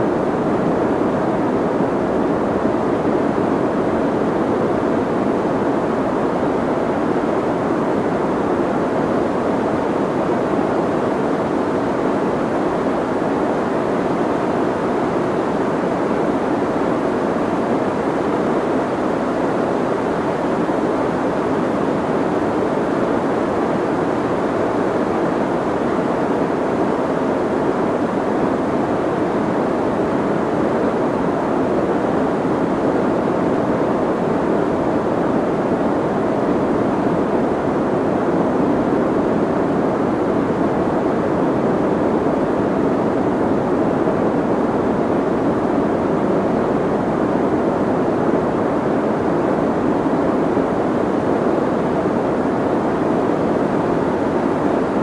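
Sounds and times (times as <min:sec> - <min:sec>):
soft white noise hiss: 0:00.0 - 0:55.0.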